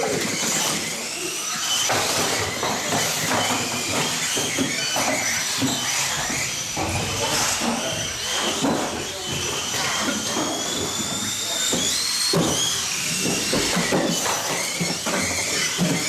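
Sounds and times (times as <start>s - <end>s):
high electric motor whines: 0.0s - 16.0s.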